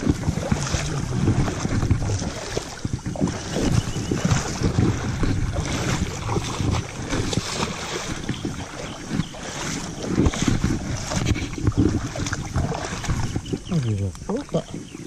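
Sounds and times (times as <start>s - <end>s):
water splashing from wading feet: 0.0s - 15.0s
wind buffeting microphone: 0.0s - 15.0s.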